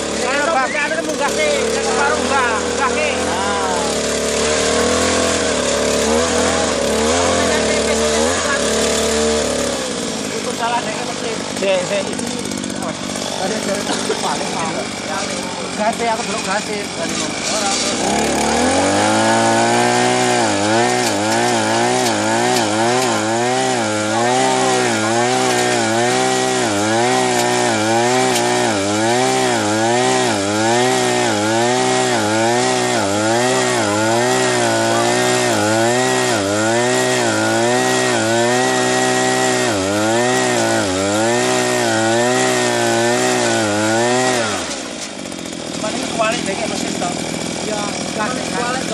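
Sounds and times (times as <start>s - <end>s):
tiller engine running under load: 0.0s - 48.9s.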